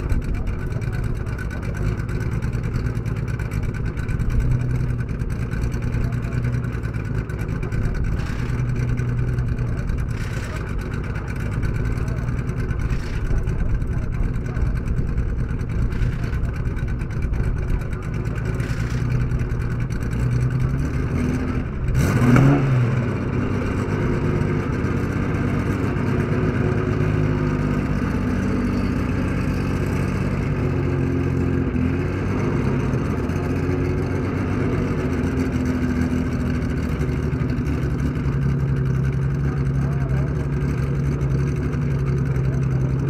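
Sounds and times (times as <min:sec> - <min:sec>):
car engine idling and revving: 0:00.0 - 0:43.0.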